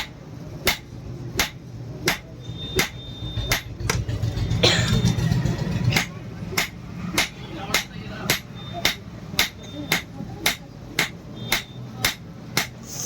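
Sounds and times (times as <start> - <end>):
hammer striking iron on anvil: 0.0 - 3.7, 6.0 - 12.8.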